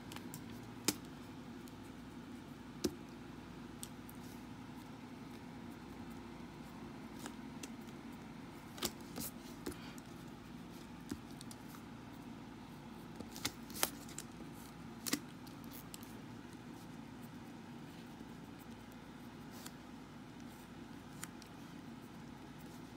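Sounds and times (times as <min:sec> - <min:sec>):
low room hum: 0:00.0 - 0:22.9.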